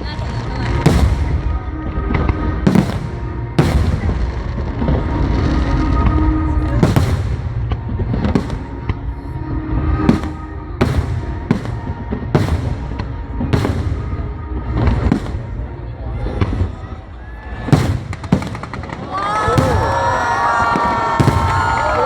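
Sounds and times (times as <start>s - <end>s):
low rumble of fireworks: 0.0s - 22.0s.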